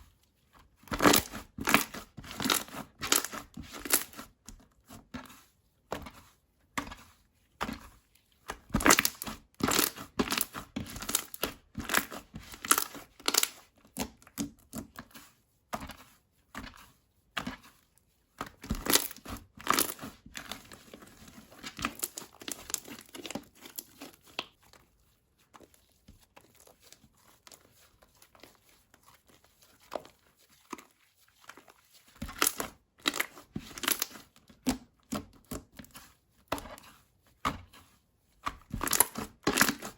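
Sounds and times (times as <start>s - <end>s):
slime squishing and crackling: 0.0s - 39.9s.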